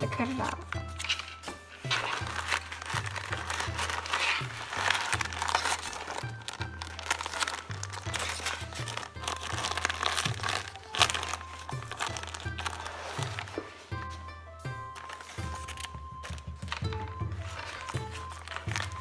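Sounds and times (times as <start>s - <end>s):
background music with bass line: 0.0s - 19.0s
plastic packaging crinkling: 0.1s - 14.2s, 14.8s - 19.0s.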